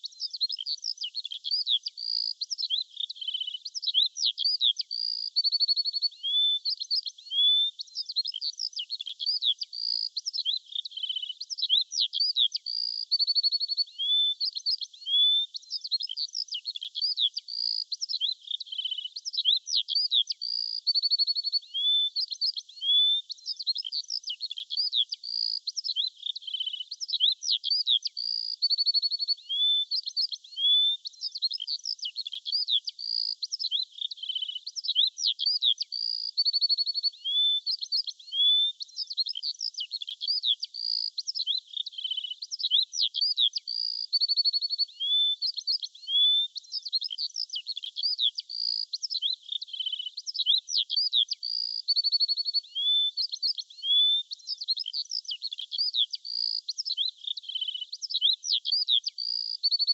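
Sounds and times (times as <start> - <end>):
birdsong chirps and trills: 0.0 - 59.9.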